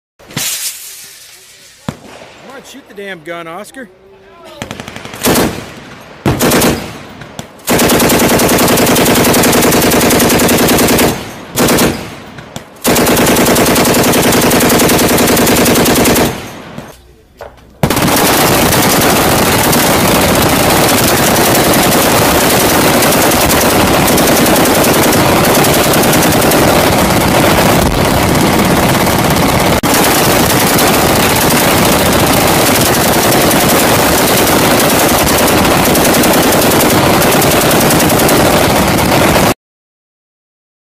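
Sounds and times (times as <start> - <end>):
heavy machine gun firing: 4.6 - 16.9, 17.8 - 39.6.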